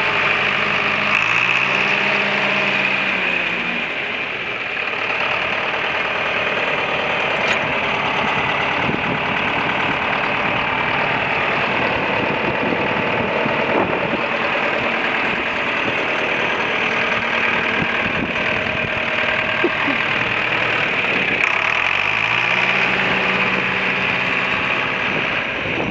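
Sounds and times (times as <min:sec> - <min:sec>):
tractor engine idling: 0:00.0 - 0:25.9.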